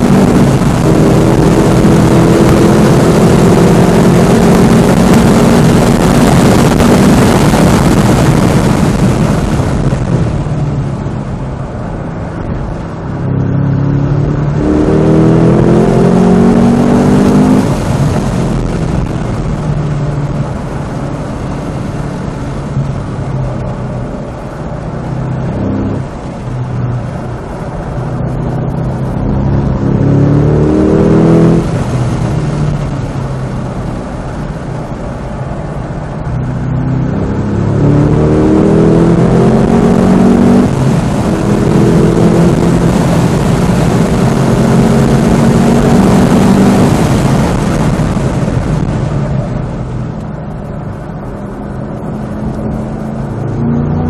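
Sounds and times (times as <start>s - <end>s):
car engine revving at full throttle: 0.0s - 54.0s.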